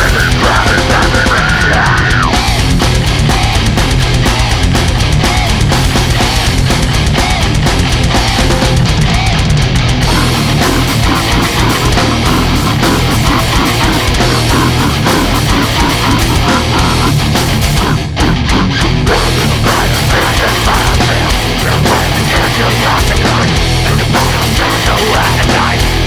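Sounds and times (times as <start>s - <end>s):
extreme metal music: 0.0s - 26.0s.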